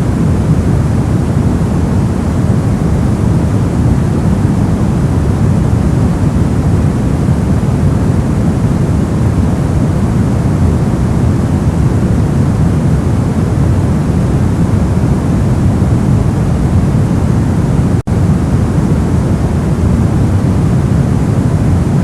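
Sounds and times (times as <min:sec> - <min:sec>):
deep low white noise: 0:00.0 - 0:22.0.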